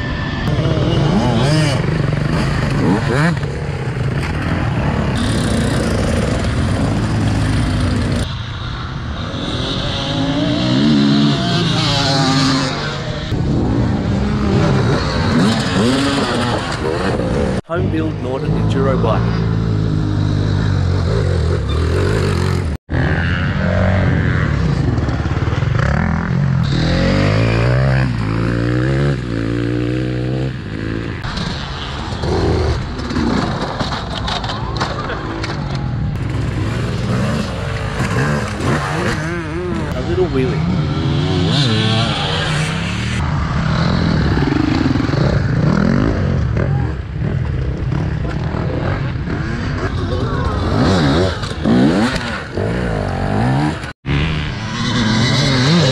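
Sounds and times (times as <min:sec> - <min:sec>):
dirt bike revving: 0:00.0 - 0:34.0, 0:36.2 - 0:55.9.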